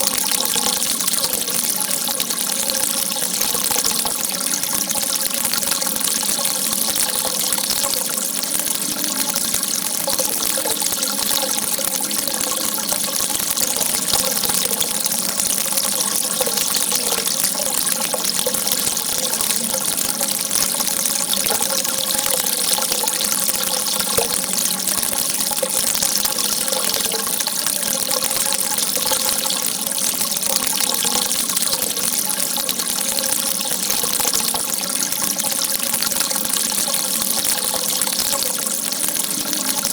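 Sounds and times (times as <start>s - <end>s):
water rushing in steady stream: 0.0s - 39.9s.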